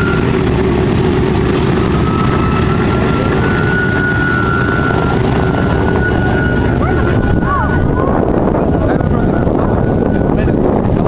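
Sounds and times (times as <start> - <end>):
radial aircraft engines rumbling: 0.0 - 11.0.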